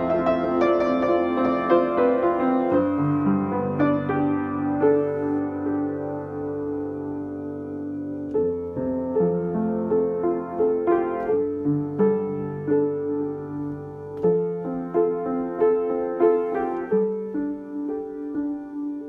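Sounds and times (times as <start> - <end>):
slow solo piano melody: 0.0 - 19.0.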